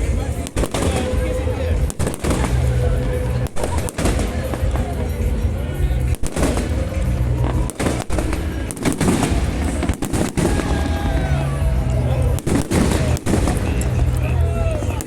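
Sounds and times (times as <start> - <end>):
faint music: 0.0 - 15.0
fireworks bangs and cracks: 0.0 - 15.0.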